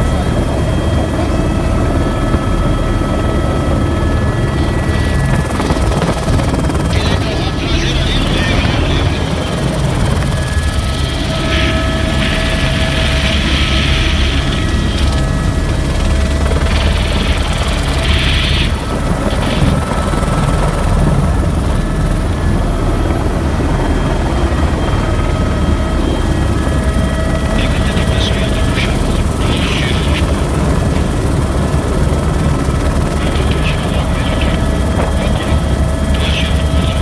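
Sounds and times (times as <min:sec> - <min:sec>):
helicopter rotor beat: 0:00.0 - 0:37.0.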